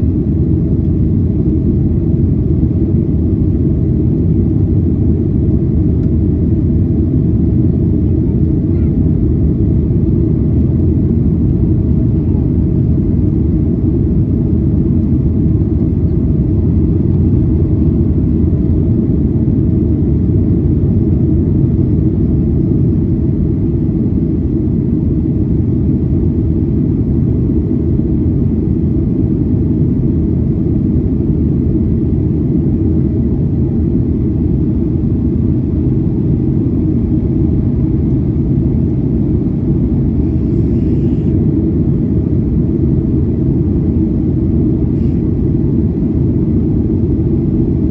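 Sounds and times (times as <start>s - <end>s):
jet engines rumbling: 0.0s - 47.9s.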